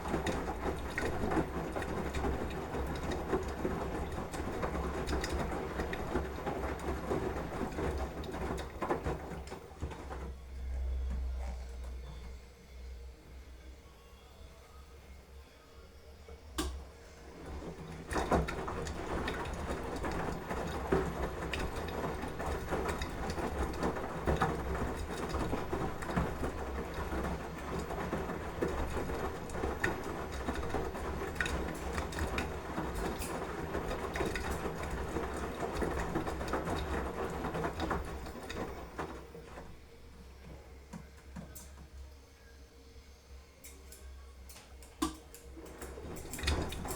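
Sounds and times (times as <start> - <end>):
washing machine drum rattling: 0.0 - 12.3, 16.6 - 42.0, 44.5 - 46.9.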